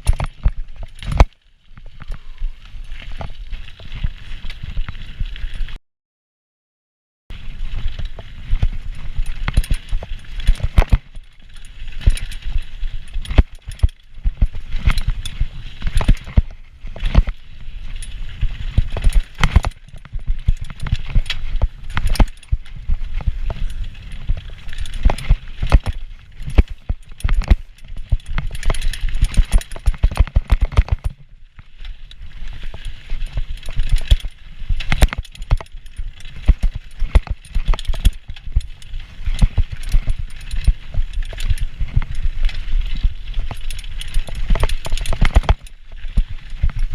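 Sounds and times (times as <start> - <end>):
bike rattling over bumps: 0.0 - 5.8, 7.3 - 46.9
wind: 0.0 - 5.8, 7.3 - 46.9.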